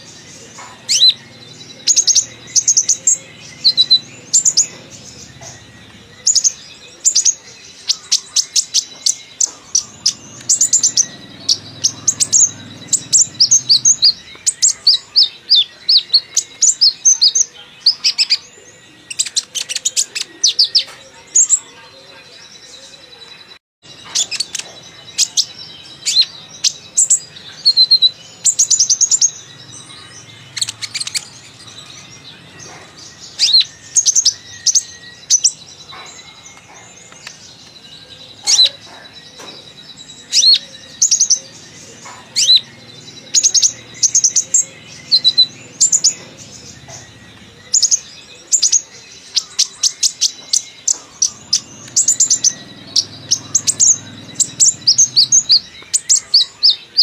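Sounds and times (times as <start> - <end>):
sunbird singing high chirps: 0.0 - 57.0.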